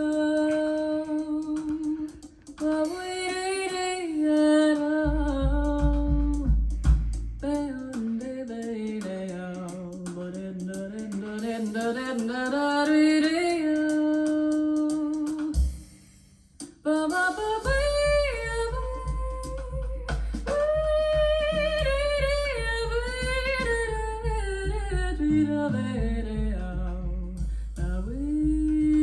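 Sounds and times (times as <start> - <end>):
jazz band with low beat: 0.0 - 29.0.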